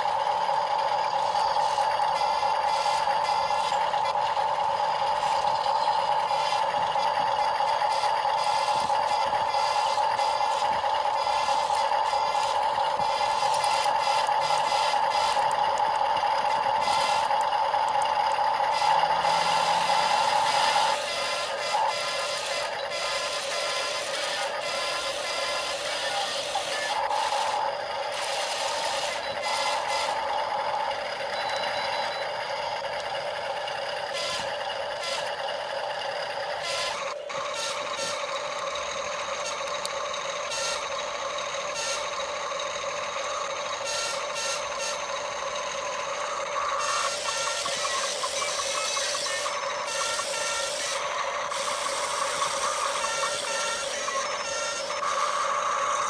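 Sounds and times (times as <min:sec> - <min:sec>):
toy electric motors whining: 0:00.0 - 0:56.0.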